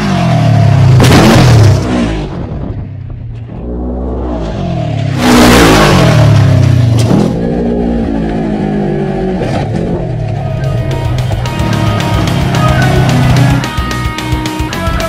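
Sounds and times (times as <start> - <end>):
engine revving: 0.0 - 14.2.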